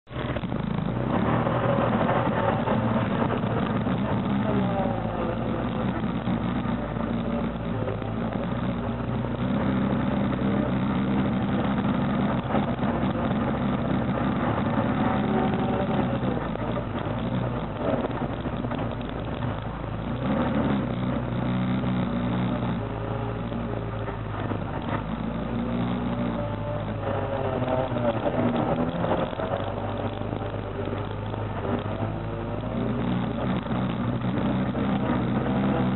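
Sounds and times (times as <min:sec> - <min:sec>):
quad bike engine revving: 0:00.0 - 0:35.9.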